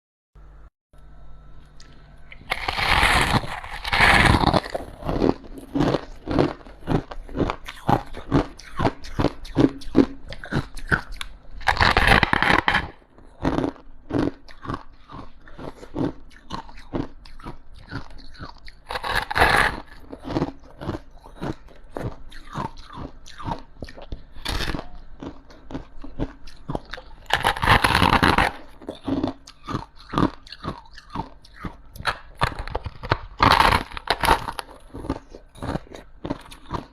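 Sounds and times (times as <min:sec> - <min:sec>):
crunchy chewing: 0:01.7 - 0:36.9
loud crunchy bites into frost: 0:02.5 - 0:10.7, 0:11.6 - 0:23.6, 0:26.2 - 0:36.9.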